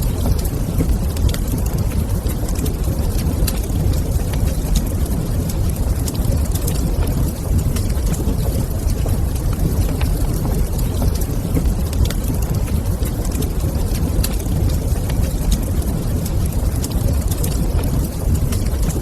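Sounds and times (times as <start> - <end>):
fire low rumble: 0.0 - 19.0
wood fire snaps and pops: 0.0 - 19.0.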